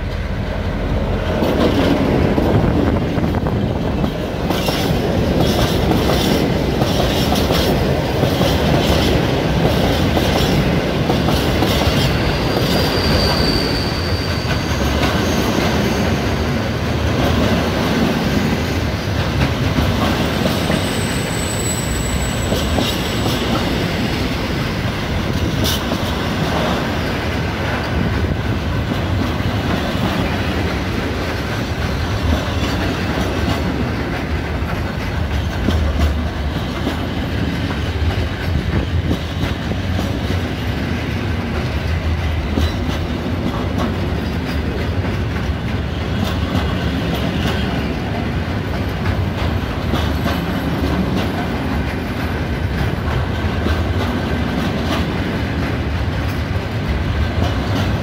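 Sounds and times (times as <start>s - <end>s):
freight train low rumble: 0.0s - 58.0s
wheels clicking on rails: 0.0s - 58.0s.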